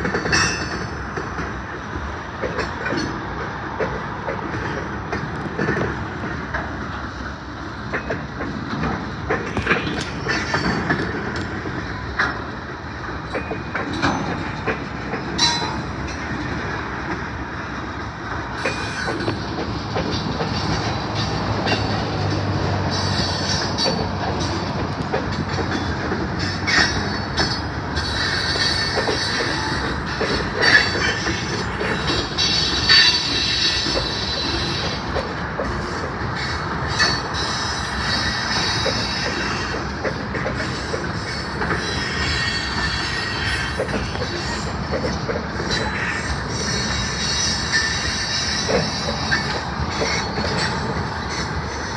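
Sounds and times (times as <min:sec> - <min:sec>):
train wheels clacking over rails: 0:00.0 - 0:51.9.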